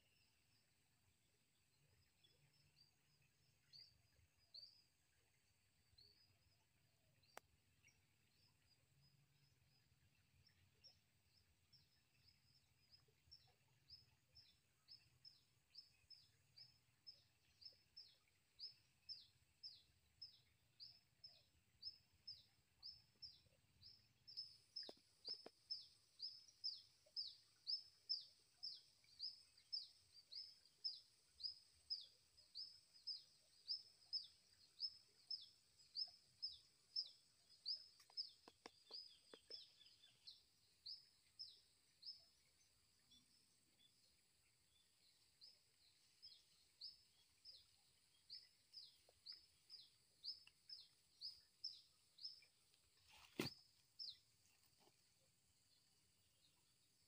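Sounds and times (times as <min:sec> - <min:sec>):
bird chirping: 0:01.5 - 0:57.0.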